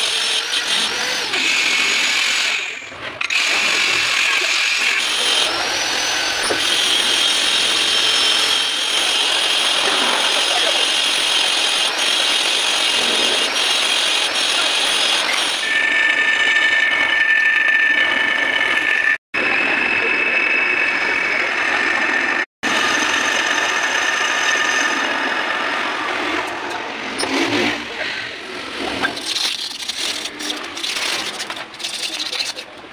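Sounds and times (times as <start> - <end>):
whine of cutting tool: 0.0 - 27.9
metal lathe drone: 0.0 - 32.0.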